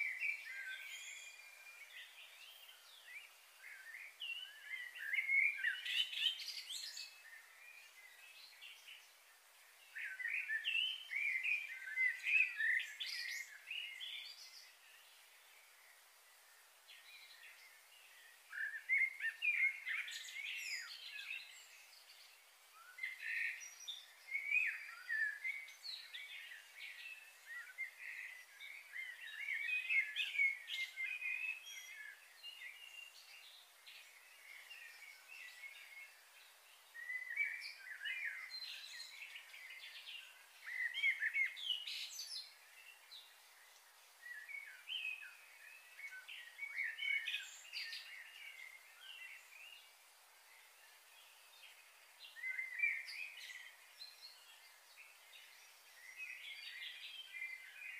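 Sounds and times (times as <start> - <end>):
faint steady hiss: 0.0 - 57.9
small birds chirping: 0.0 - 57.9.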